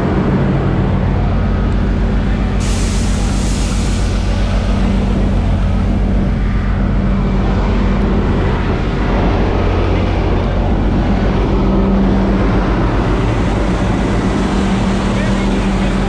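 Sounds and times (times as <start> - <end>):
loud engine drone: 0.0 - 16.0.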